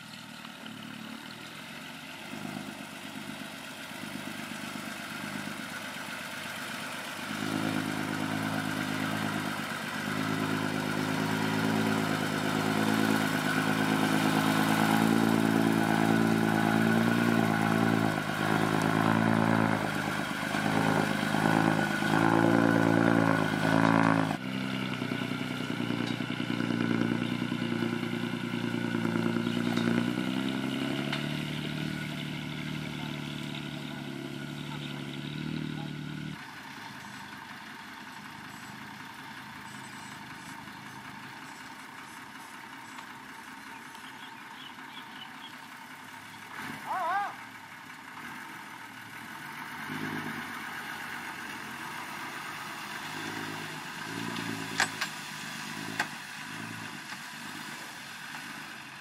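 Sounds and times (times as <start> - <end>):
truck diesel engine revving: 0.0 - 59.0.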